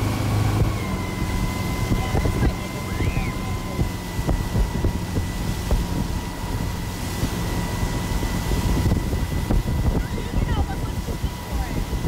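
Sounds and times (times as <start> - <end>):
motorboat engine running: 0.0 - 12.0
wake churning: 0.0 - 12.0
wind buffeting microphone: 0.0 - 12.0.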